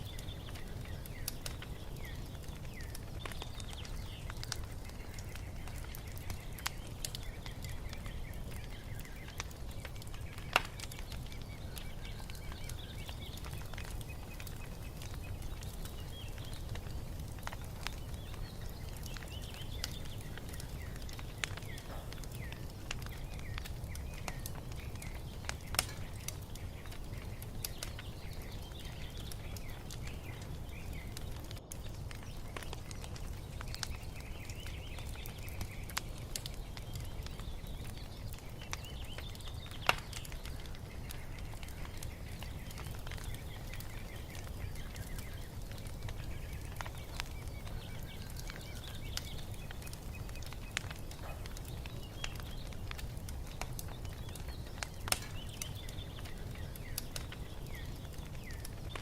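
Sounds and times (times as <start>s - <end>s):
birds chirping faintly: 0.0s - 59.0s
wood fire crackling: 0.0s - 59.0s.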